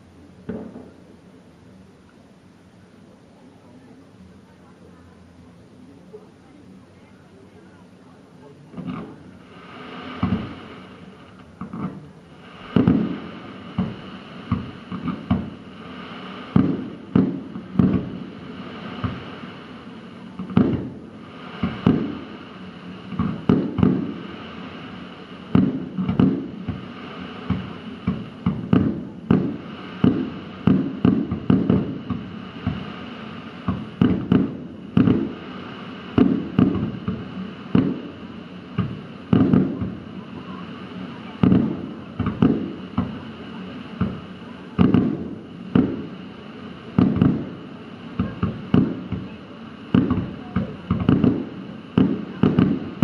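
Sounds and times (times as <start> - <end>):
continuous hiss: 0.0 - 53.0
fireworks bursting with loud bangs: 0.0 - 53.0.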